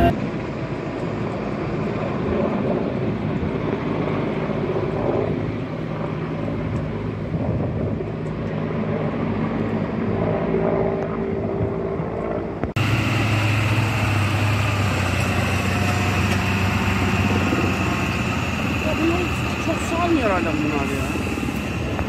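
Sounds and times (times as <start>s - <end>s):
fire truck engine running: 0.0s - 10.4s, 11.2s - 22.0s
helicopter rotor and turbine: 0.0s - 22.0s.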